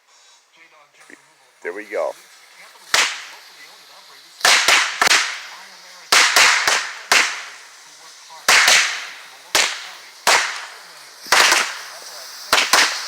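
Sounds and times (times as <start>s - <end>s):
firecrackers exploding: 1.0s - 13.0s.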